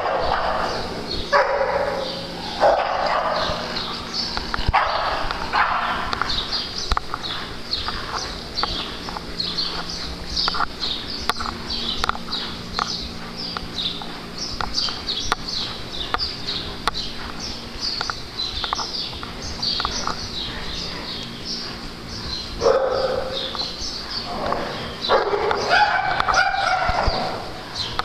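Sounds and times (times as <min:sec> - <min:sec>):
dogs barking and yelping: 0:00.0 - 0:28.0.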